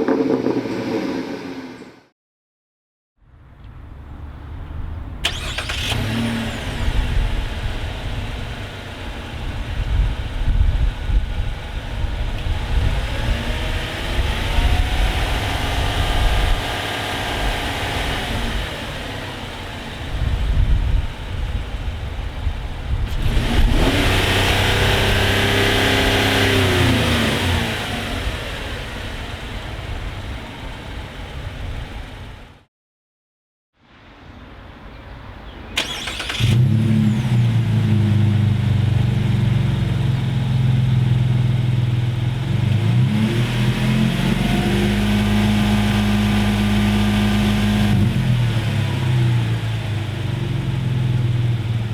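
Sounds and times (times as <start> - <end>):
car engine with deep exhaust: 3.6 - 32.6, 36.0 - 51.9.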